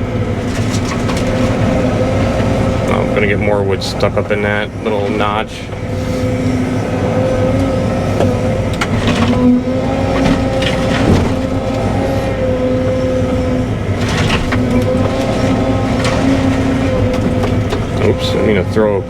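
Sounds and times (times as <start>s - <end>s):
excavator diesel engine running: 0.0s - 19.0s
hydraulic tone: 0.0s - 19.0s.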